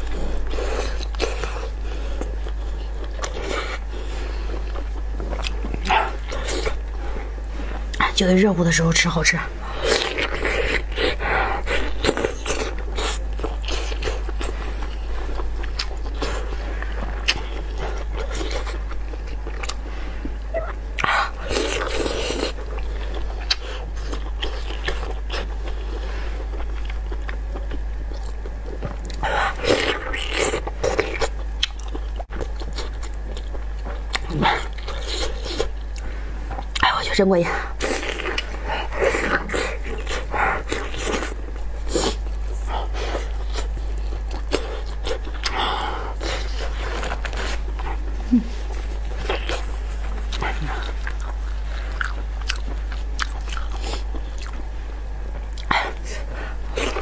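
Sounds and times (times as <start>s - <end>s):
biting and chewing meat: 0.0s - 8.0s, 9.6s - 36.8s, 37.6s - 57.0s.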